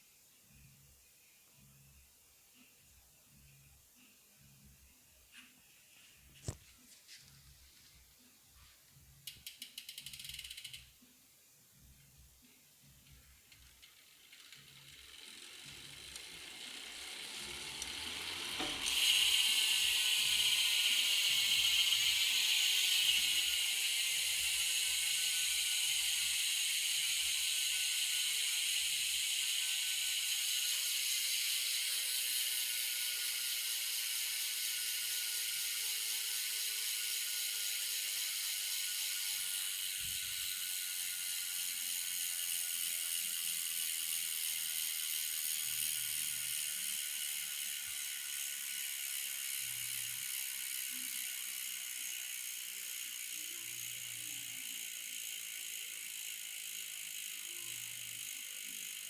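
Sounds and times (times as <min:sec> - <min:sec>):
bicycle hub ratchet clicking: 0:09.2 - 0:11.0, 0:13.0 - 0:59.0.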